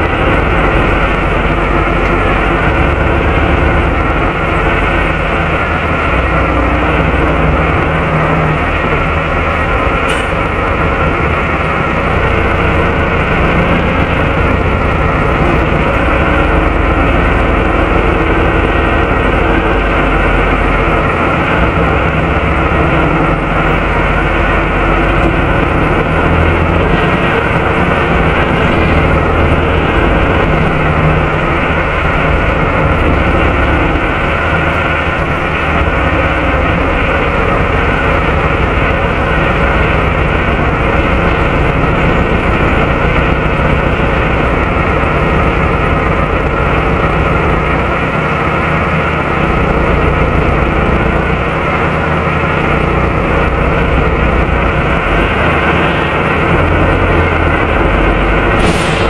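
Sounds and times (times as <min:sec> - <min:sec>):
bus diesel engine running: 0:00.0 - 0:59.0
constant whine: 0:00.0 - 0:59.0
engine cooling fan whirring: 0:00.0 - 0:59.0.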